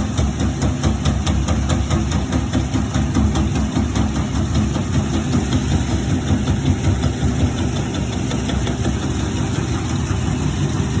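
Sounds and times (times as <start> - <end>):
washing machine rumbling: 0.0 - 11.0.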